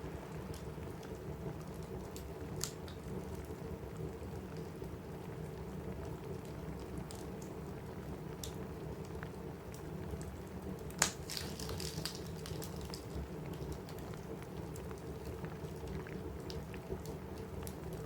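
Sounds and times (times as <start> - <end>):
rain pattering on a roof: 0.0 - 18.0
wood fire crackling and popping: 0.0 - 18.0.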